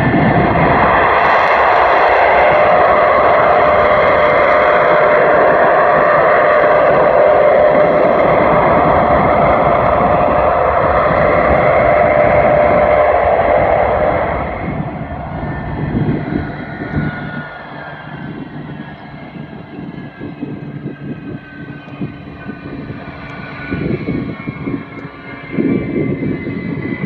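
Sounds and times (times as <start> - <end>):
engine running loud and steady: 0.0 - 27.0.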